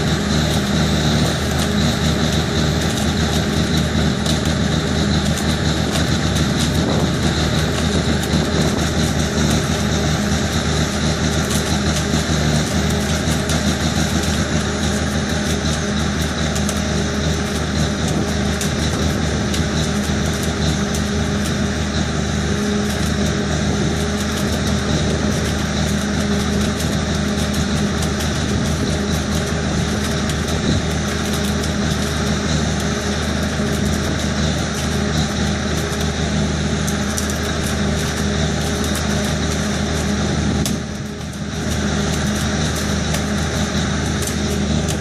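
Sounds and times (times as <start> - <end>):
truck engine droning: 0.0 - 45.0
welding head crackling and sizzling: 0.0 - 45.0.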